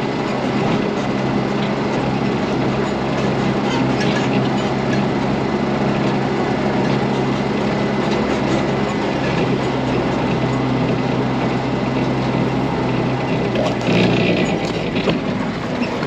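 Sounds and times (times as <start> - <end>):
heavy diesel engine running: 0.0 - 16.0
rattling clatter: 0.0 - 16.0.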